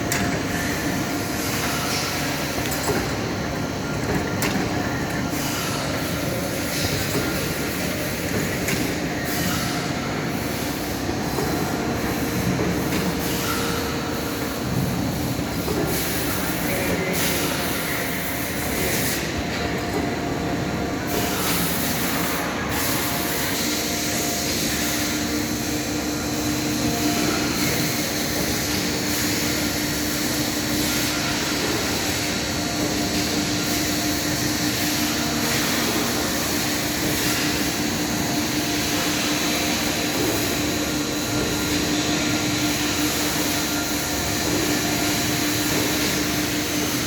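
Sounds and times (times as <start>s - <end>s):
steady hum: 0.0s - 47.0s.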